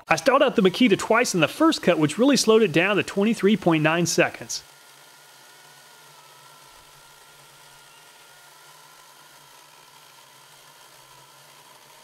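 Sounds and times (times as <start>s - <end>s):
faint electric chainsaw cutting log: 0.0s - 12.0s.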